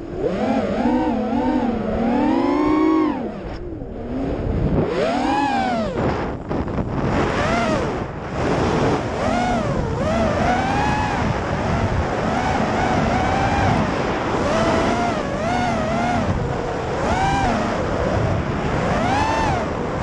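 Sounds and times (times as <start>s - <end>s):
quadcopter motors whining: 0.0s - 20.0s
wind rushing over microphone: 0.0s - 20.0s.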